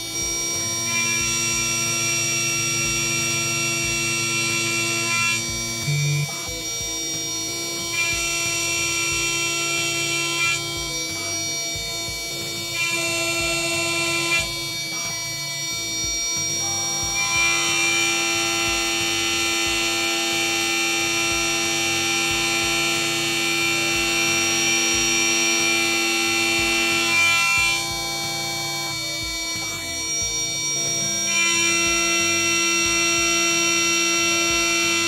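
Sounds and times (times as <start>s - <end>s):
end mill cutting aluminium: 0.0s - 35.0s
router spindle whining: 0.0s - 35.0s.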